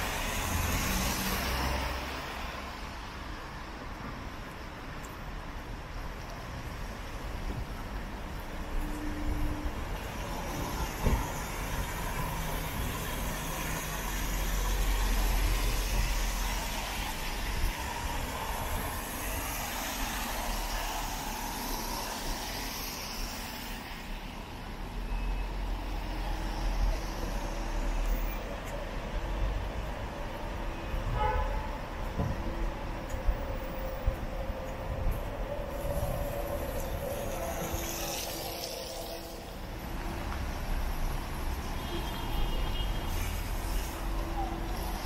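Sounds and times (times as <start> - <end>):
vehicles passing on wet road: 0.0 - 45.0.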